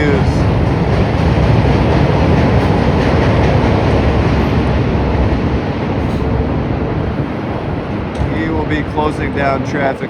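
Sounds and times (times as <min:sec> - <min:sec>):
elevated train rumbling past: 0:00.0 - 0:10.0.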